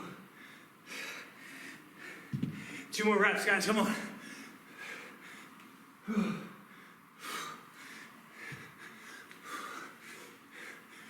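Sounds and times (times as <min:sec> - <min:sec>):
man breathing hard: 0:00.0 - 0:02.9, 0:04.0 - 0:11.0.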